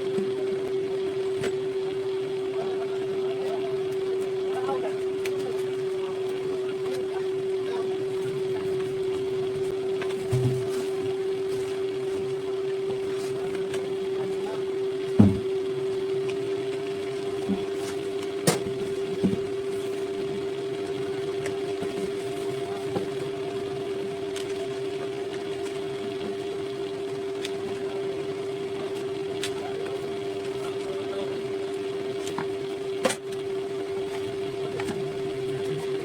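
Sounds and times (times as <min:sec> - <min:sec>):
small electric motor humming: 0:00.0 - 0:36.0.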